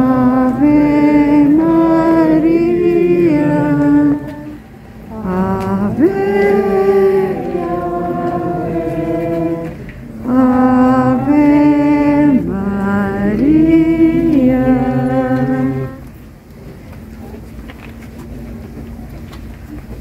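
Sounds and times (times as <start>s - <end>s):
crowd singing a hymn: 0.0s - 16.2s.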